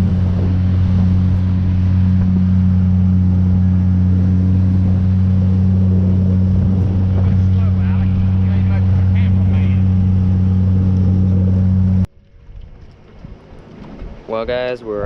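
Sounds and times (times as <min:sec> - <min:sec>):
outboard motor running: 0:00.0 - 0:14.3
water noise: 0:00.0 - 0:15.0
wind noise: 0:00.0 - 0:15.0.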